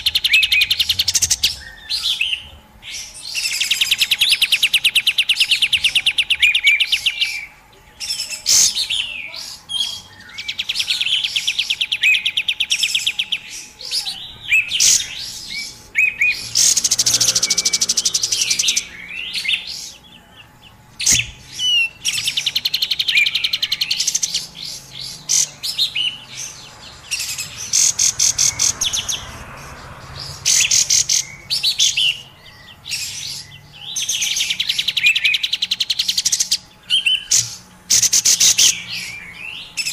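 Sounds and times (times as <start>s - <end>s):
birds calling with rattling chirps: 0.0s - 39.9s.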